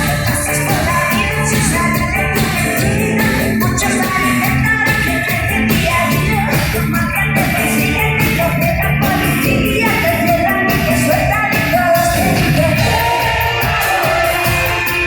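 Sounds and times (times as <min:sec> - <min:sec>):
live pop-rock band playing: 0:00.0 - 0:15.0
woman singing: 0:00.0 - 0:15.0.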